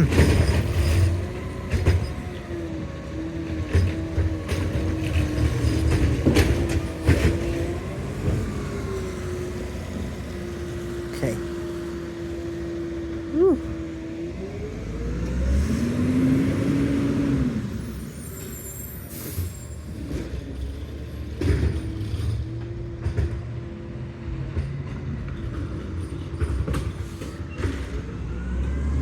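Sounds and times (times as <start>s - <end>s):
garbage truck engine hum: 0.0s - 29.0s.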